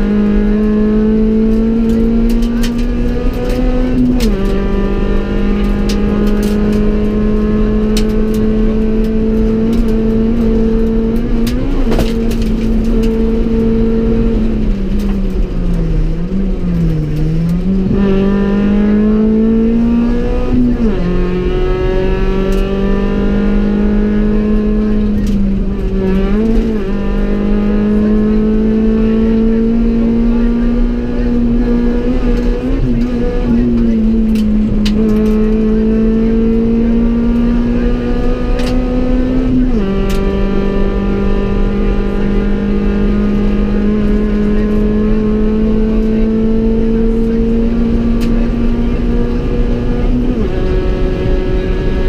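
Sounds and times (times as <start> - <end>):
car engine at high revs: 0.0 - 52.0.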